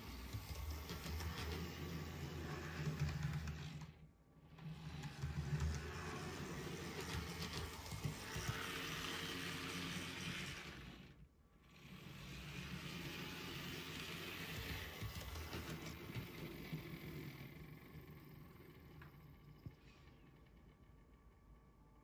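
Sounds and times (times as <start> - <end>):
model locomotive motor whirring: 0.0 - 21.6.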